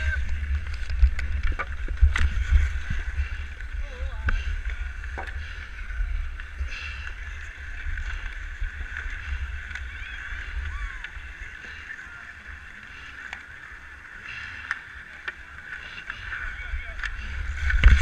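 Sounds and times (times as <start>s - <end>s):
wind rumbling on microphone: 0.0s - 14.0s, 15.4s - 18.0s.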